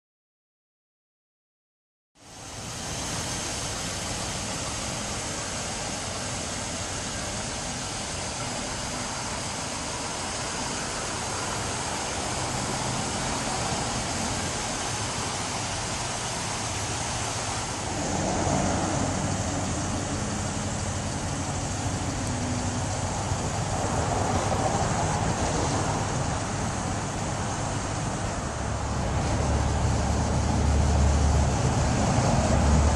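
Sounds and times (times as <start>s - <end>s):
constant hiss: 2.2s - 32.9s
vehicle engine idling: 2.2s - 32.9s.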